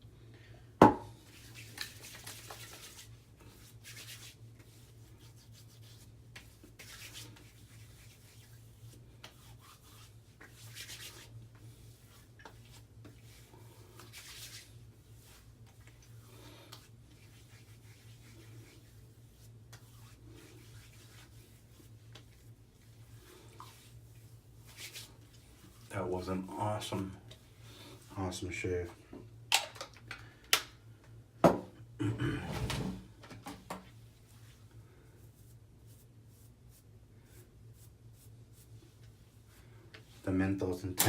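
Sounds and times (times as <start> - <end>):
hands rubbing balm on skin: 1.2 - 28.2, 33.8 - 40.2.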